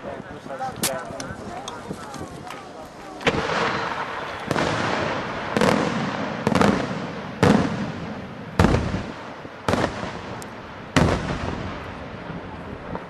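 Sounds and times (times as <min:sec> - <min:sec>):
firework shells bursting: 0:00.8 - 0:11.6.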